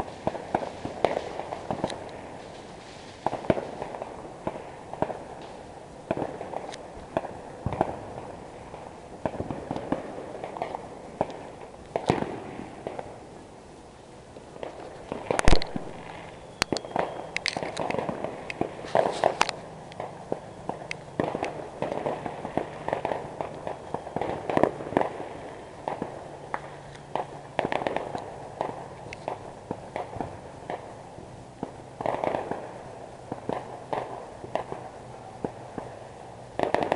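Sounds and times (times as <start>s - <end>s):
fireworks and firecrackers popping: 0.0s - 13.4s, 14.4s - 36.9s.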